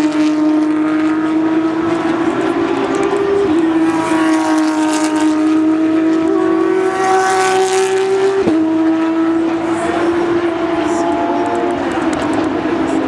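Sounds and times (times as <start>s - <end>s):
fainter engine notes: 0.0s - 13.0s
racing car engines at high revs: 0.0s - 13.0s.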